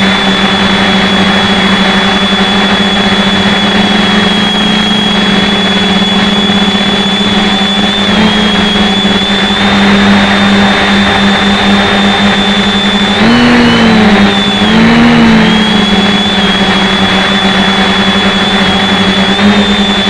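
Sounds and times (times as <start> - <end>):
quadcopter motors buzzing: 0.0 - 20.0.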